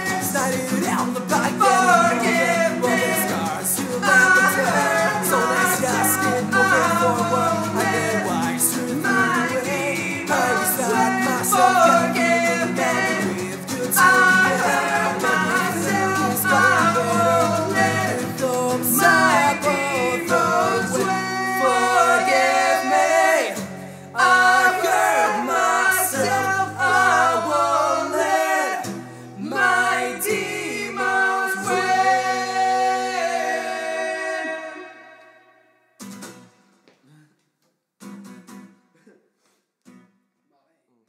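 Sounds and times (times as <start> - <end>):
strummed acoustic guitars: 0.0 - 35.2, 36.0 - 36.8, 38.0 - 39.0
voices singing in harmony: 0.0 - 35.6.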